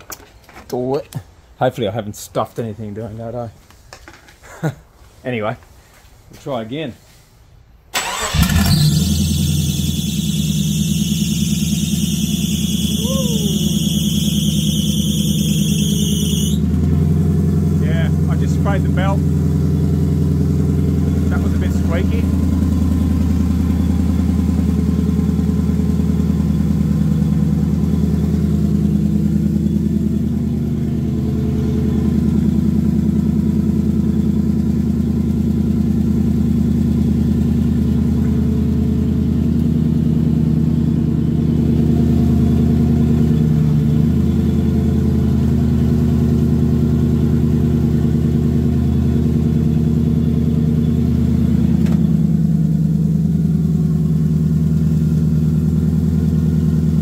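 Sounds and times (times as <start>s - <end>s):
car engine idling: 8.0s - 57.0s.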